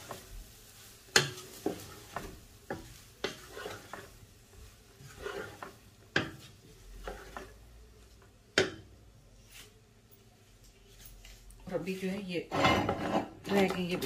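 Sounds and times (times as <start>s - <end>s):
wooden spoon scraping a wok: 0.0s - 8.3s, 10.8s - 14.0s.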